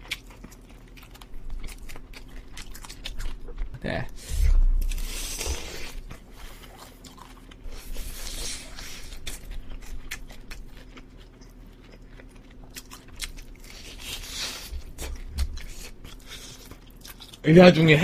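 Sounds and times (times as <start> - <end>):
crunchy chewing: 0.0 - 17.4.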